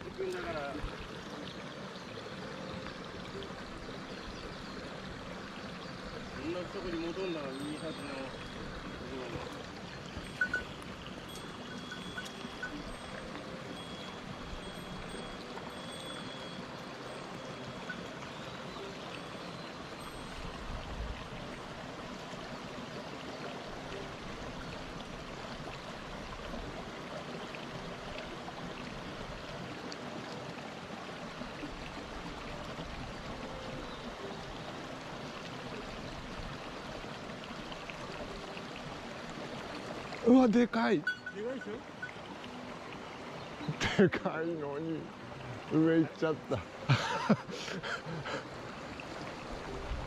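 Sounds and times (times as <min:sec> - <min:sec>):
stream water rushing over rocks: 0:00.0 - 0:50.0.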